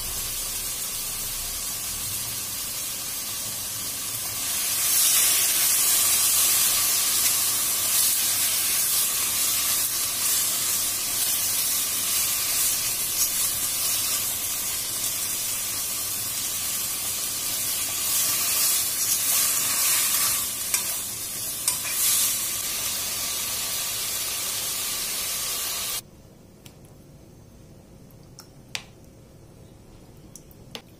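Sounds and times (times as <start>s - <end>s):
meat sizzling in a pan: 0.0s - 26.0s.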